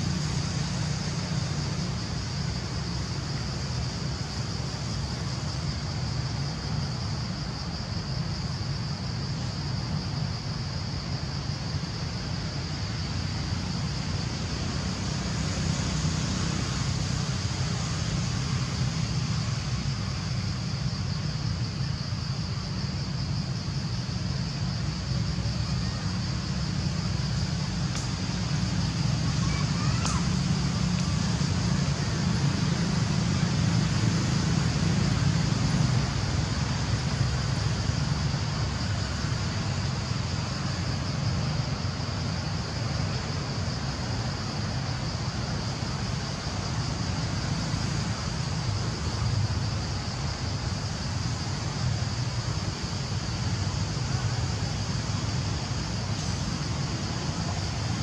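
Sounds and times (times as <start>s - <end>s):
high-pitched hiss: 0.0s - 58.0s.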